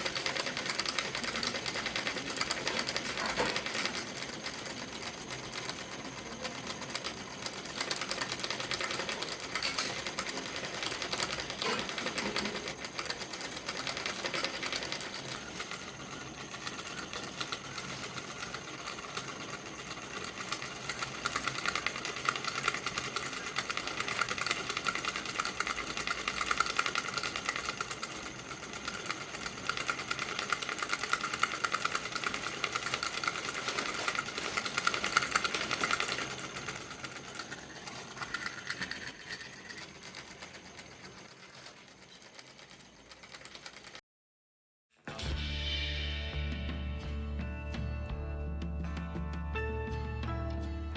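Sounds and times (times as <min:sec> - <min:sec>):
solenoid engine clattering: 0:00.0 - 0:44.0.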